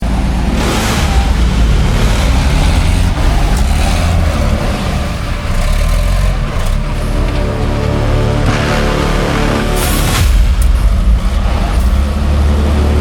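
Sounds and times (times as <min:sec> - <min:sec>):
truck engine running hard: 0:00.0 - 0:13.0
hissing burst: 0:00.5 - 0:13.0.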